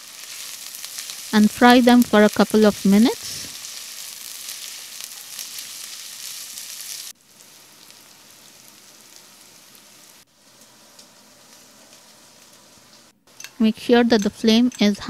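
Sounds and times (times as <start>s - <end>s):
onions and spices sizzling in ghee: 0.0s - 15.0s.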